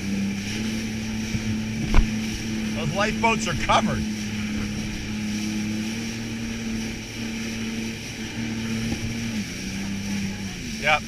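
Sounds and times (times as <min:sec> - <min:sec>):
jet ski engine droning: 0:00.0 - 0:11.0.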